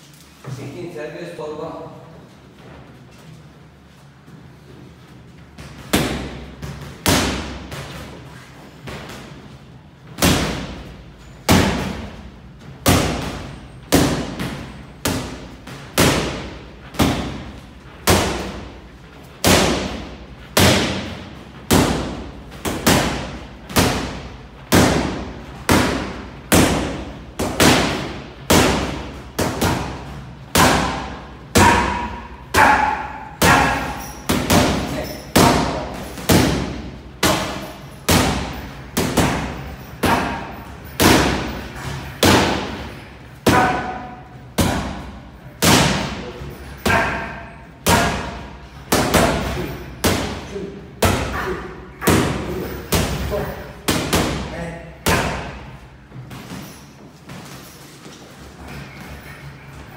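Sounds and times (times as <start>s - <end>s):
boxing gloves hitting focus mitts: 5.6s - 57.6s.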